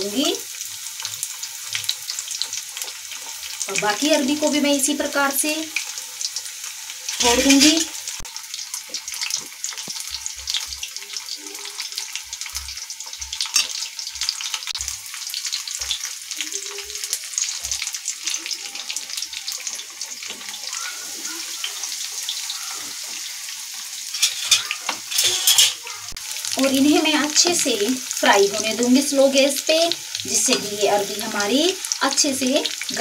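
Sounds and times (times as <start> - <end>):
cutlets deep-frying in oil: 0.0 - 33.0.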